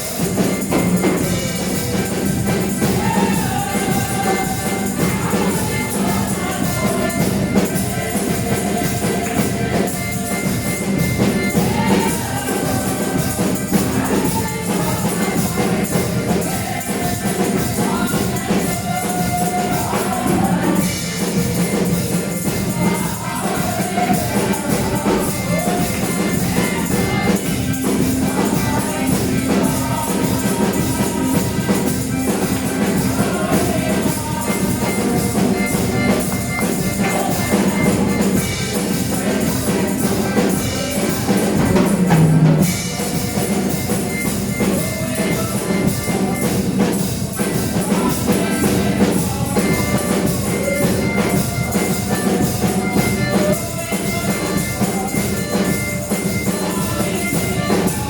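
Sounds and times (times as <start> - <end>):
church band music: 0.0 - 58.0
drum kit beat: 0.0 - 58.0
tambourine: 0.0 - 58.0.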